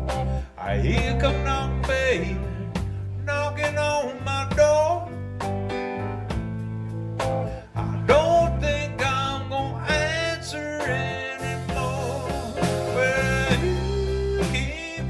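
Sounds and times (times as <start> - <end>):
blues band playing: 0.0 - 15.0.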